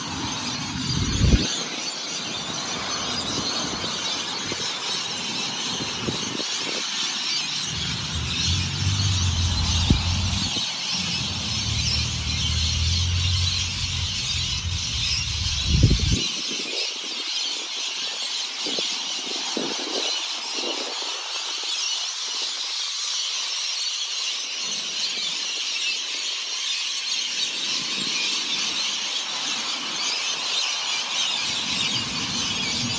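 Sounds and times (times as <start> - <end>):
many birds chirping and singing: 0.0 - 32.9.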